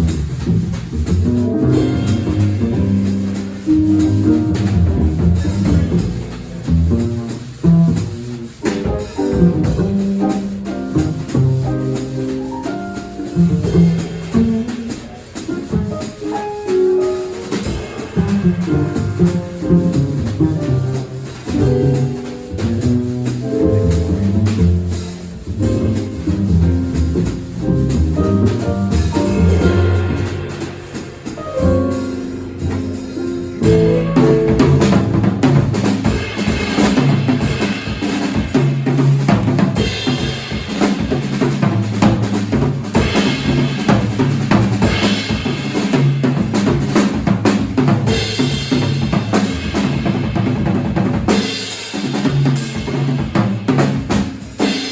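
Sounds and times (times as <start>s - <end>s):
bass notes: 0.0s - 51.3s
drum kit with cymbals and snare: 0.0s - 54.9s
piano: 0.0s - 54.9s.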